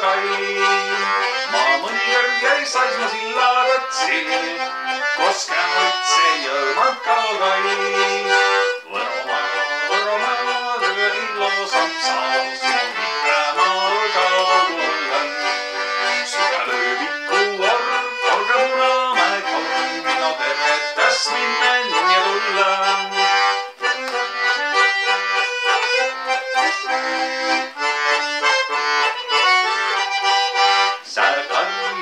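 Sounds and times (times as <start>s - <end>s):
bandoneon playing folk melody: 0.0s - 32.0s.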